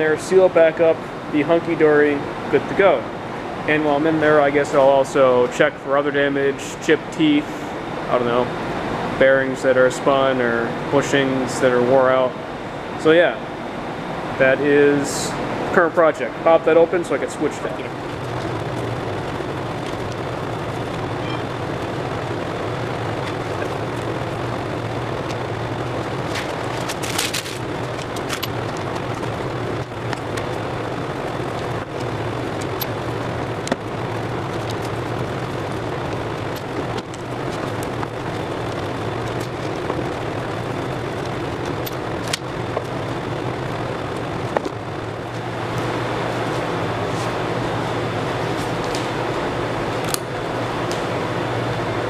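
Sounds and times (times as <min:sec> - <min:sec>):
oil burner heater humming: 0:00.0 - 0:52.0.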